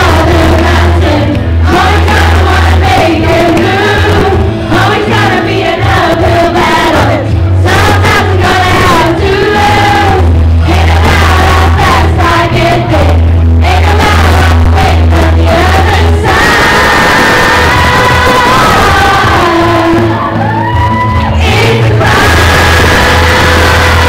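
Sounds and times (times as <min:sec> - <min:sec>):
amplified backing track with bass: 0:00.0 - 0:24.0
girls singing: 0:00.0 - 0:24.0.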